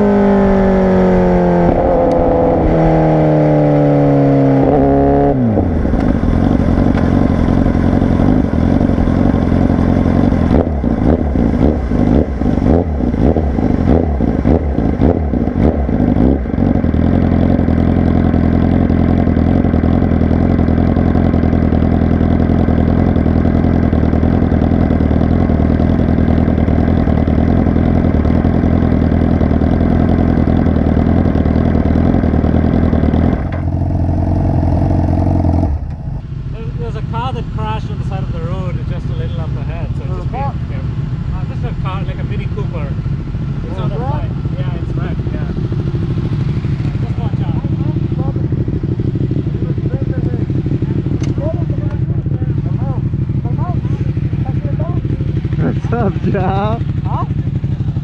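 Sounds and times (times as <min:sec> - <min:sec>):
motorcycle engine revving: 0:00.0 - 0:58.0
exhaust pops and crackles: 0:01.6 - 0:02.8, 0:04.6 - 0:58.0
motorcycle idling: 0:03.5 - 0:58.0.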